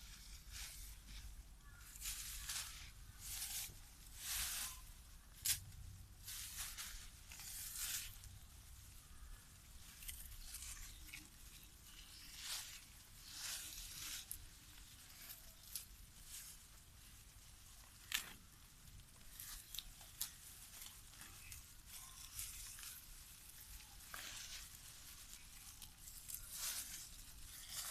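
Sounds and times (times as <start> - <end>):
faint rustling and tearing: 0.0 - 27.9.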